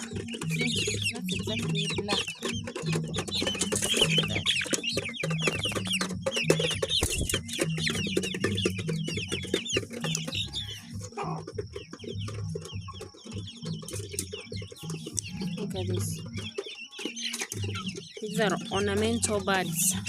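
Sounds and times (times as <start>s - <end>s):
chickens clucking and chirping: 0.0s - 20.0s.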